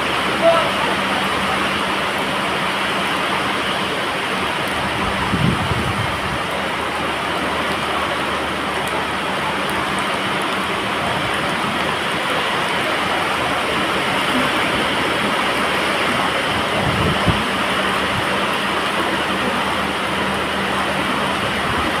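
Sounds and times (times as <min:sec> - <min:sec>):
floodwater running over concrete: 0:00.0 - 0:22.0
heavy rain pouring: 0:00.0 - 0:22.0.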